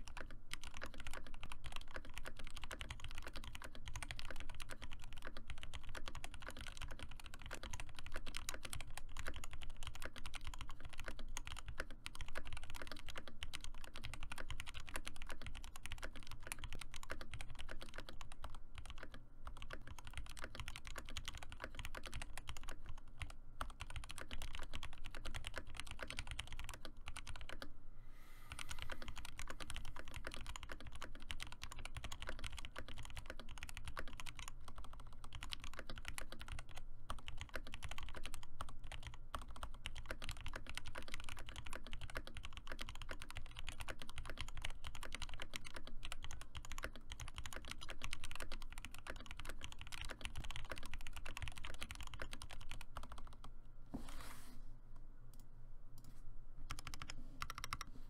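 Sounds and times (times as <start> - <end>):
mechanical keyboard typing: 0.0 - 27.7, 28.5 - 53.5, 56.7 - 57.9.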